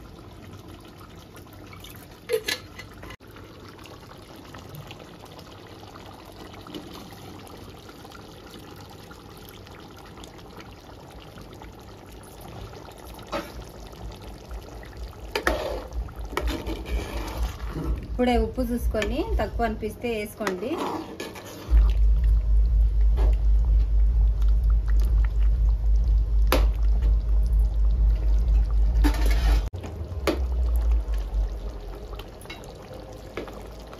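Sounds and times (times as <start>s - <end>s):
water pouring into pot: 0.0s - 19.3s, 24.3s - 33.9s.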